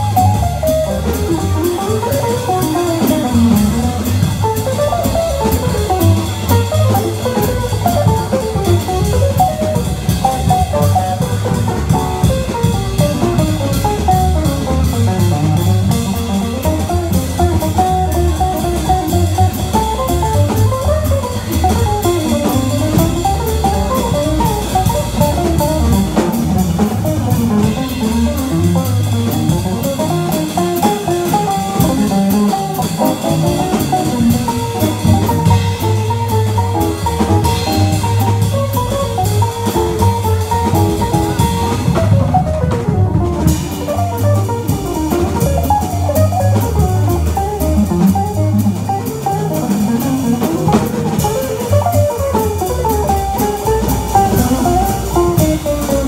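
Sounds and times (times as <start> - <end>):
double bass: 0.0 - 56.0
drum kit with cymbals: 0.0 - 56.0
electric jazz guitar solo: 0.0 - 56.0.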